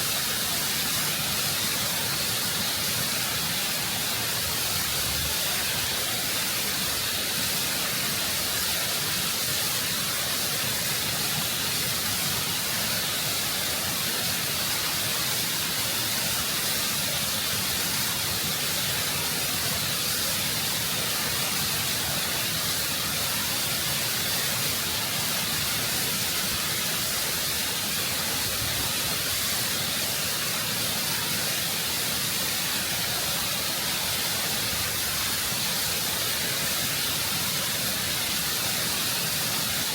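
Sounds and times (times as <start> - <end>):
waterfall roaring over rock: 0.0 - 39.9.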